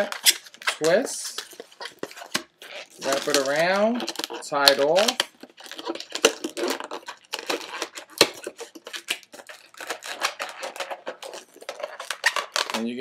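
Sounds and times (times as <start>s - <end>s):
balloons squeaking and rubbing: 0.0s - 13.0s.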